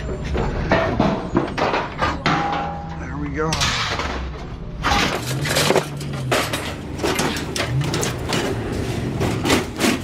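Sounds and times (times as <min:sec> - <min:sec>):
junk knocking and clattering: 0:00.2 - 0:10.0.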